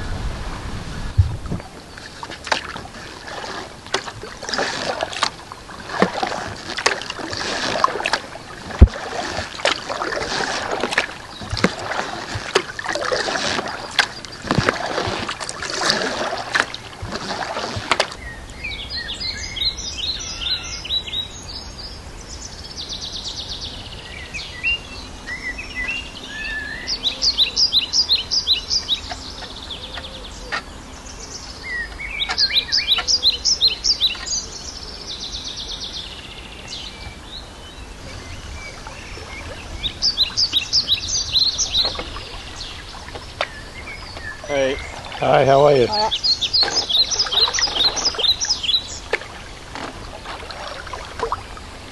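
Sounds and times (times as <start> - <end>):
paddle strokes splashing in water: 0.4 - 19.2, 26.9 - 51.9
songbird singing: 0.9 - 51.9.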